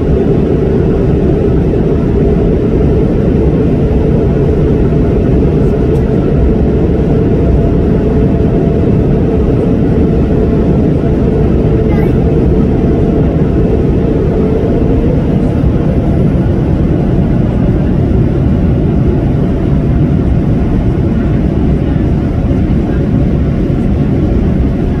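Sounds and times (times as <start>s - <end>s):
jet engine rumble in cabin: 0.0s - 25.0s.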